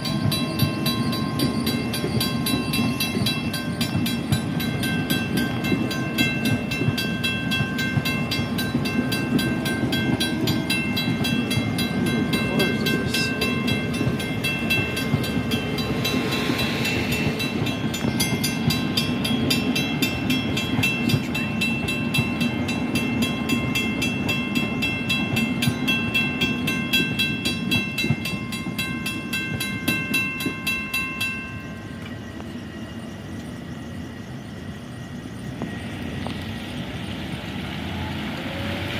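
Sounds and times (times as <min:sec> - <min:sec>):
electric train rumbling: 0:00.0 - 0:38.9
railroad crossing bells ringing: 0:00.0 - 0:38.9.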